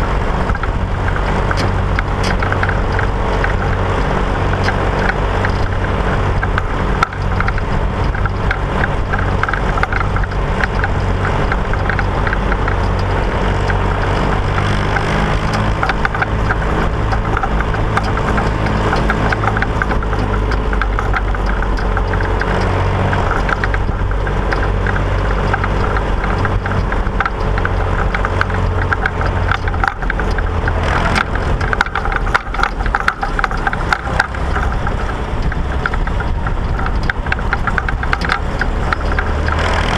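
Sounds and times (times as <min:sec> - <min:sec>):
small rattles and knocks: 0:00.0 - 0:39.9
tractor engine running: 0:00.0 - 0:39.9.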